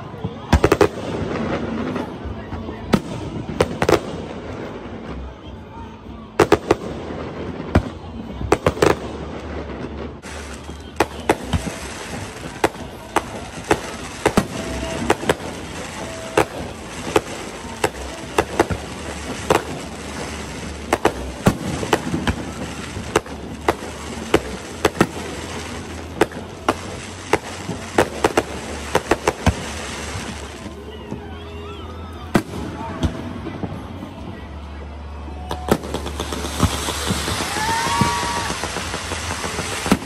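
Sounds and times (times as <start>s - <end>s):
fireworks bangs: 0.0s - 40.0s
steady background noise: 0.0s - 40.0s.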